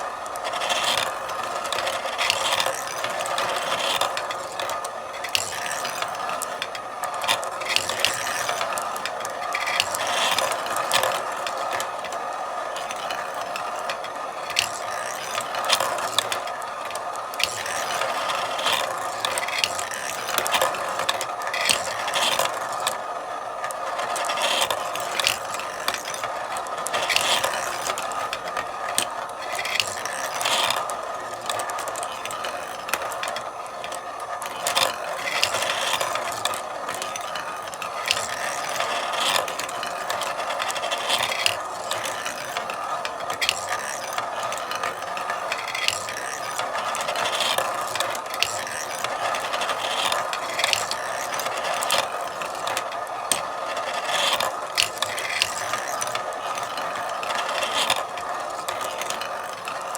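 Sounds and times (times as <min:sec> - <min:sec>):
marbles clicking: 0:00.0 - 0:59.9
marbles rolling rattle: 0:00.0 - 0:59.9.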